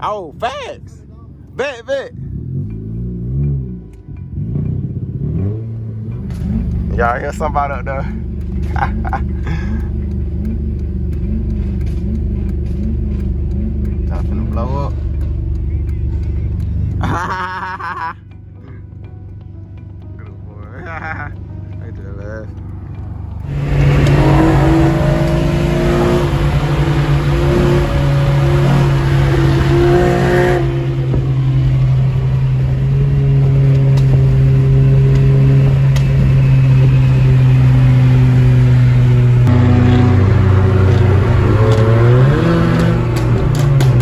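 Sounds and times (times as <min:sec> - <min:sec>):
car engine at high revs: 0:00.0 - 0:18.0, 0:22.5 - 0:44.0.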